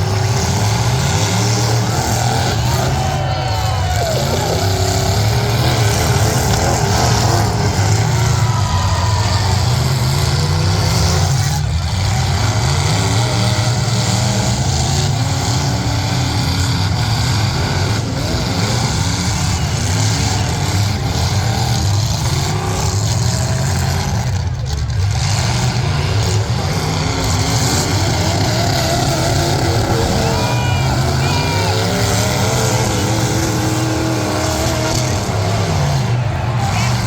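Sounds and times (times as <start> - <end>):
truck engines revving: 0.0 - 37.0.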